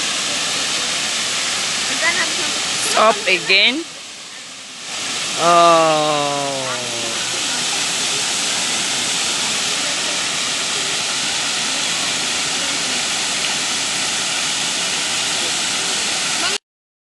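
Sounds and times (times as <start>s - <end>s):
fountain water rushing and splashing: 0.0s - 16.6s.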